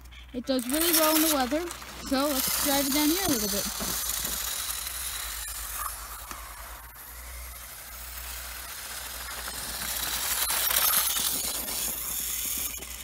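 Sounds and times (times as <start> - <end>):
rc car motor passing: 0.0 - 13.0.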